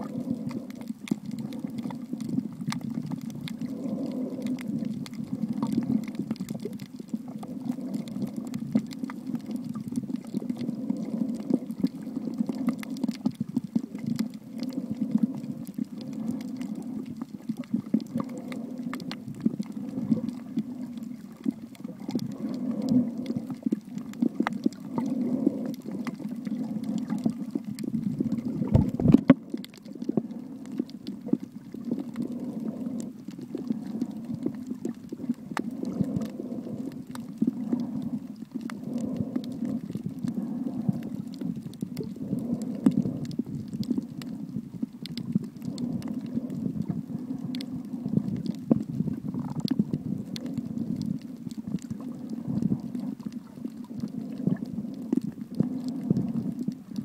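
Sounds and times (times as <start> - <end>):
small sharp clicks and crackles: 0.0 - 57.0
underwater rush of water: 0.0 - 57.0.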